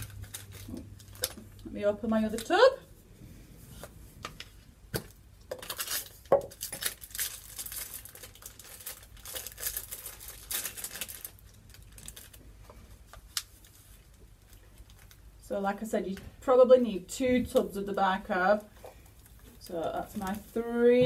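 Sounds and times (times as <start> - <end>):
crinkling and rustling: 0.0 - 16.6, 17.2 - 21.0.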